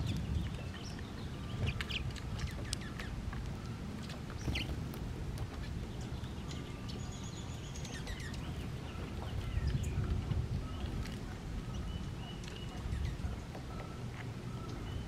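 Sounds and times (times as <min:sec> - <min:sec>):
songbirds chirping: 0:00.0 - 0:15.0
steady low rumble: 0:00.0 - 0:15.0.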